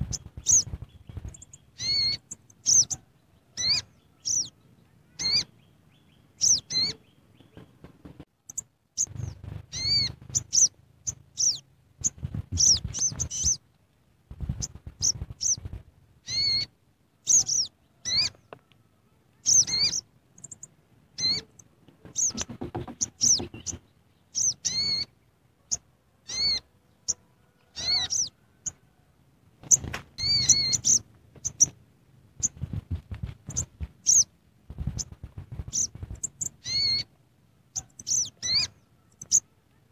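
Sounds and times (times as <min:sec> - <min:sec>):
bird chirping: 0:00.0 - 0:13.7, 0:14.4 - 0:29.0, 0:29.6 - 0:31.8, 0:32.4 - 0:39.9.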